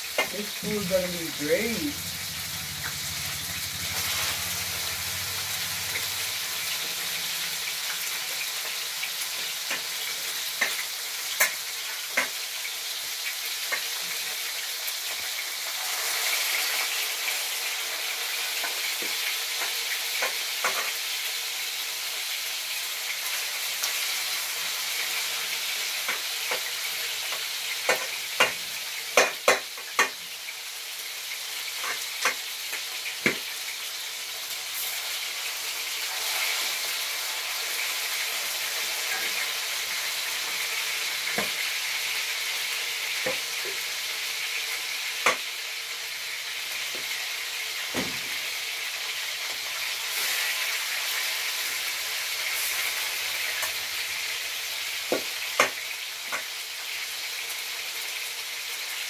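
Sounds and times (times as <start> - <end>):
chicken sizzling in a pan: 0.0 - 59.0.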